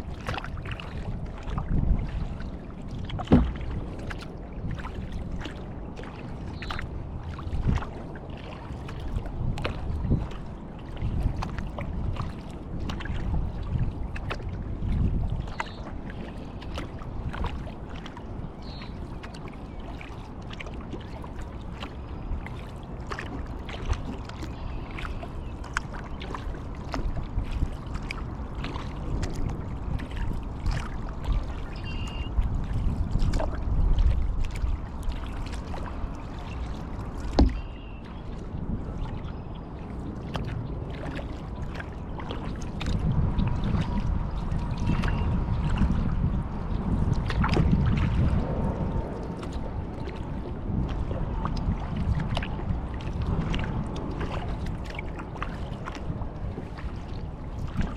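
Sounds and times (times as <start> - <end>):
paddle splashing in water: 0.0 - 57.9
wind and water rumble: 0.0 - 57.9.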